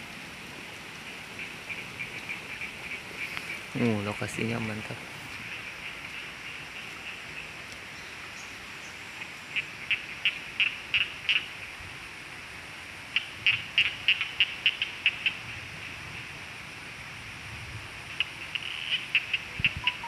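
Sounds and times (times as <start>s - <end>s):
stream rushing: 0.0s - 20.0s.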